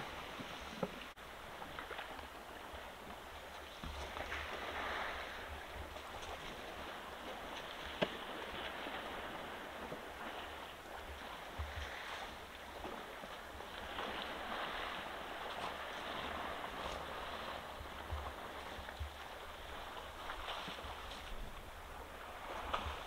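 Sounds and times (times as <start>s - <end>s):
elephant splashing in muddy water: 3.7s - 23.0s.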